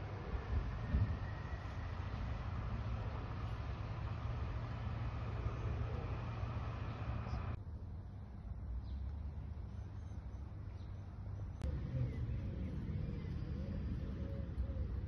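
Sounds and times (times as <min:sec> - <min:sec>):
low outdoor rumble: 0:00.0 - 0:09.7, 0:11.4 - 0:15.0.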